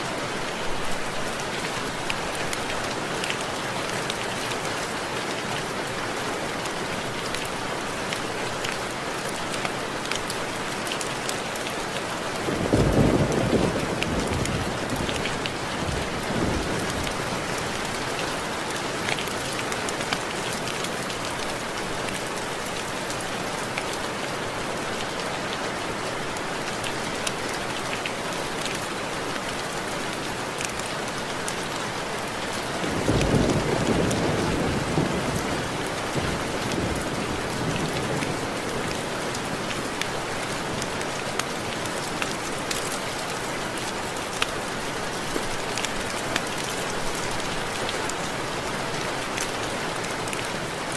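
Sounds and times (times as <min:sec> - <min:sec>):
rain hiss: 0:00.0 - 0:50.9.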